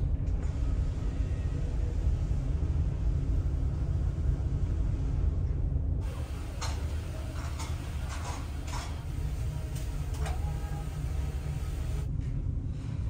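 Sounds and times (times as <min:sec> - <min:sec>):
ship engine hum: 0:00.1 - 0:12.1.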